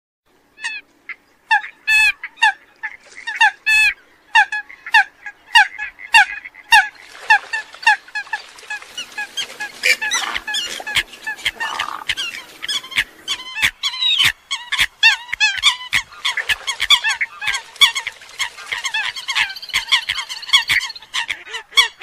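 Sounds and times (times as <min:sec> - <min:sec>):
background hiss: 0:00.3 - 0:21.7
coots calling: 0:00.6 - 0:22.0.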